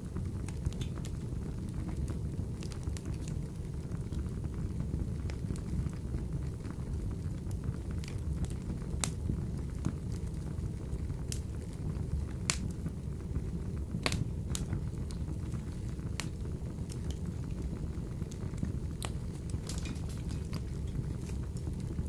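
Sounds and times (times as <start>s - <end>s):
fire crackling and popping: 0.0s - 22.0s
flames rumbling in stove: 0.0s - 22.0s.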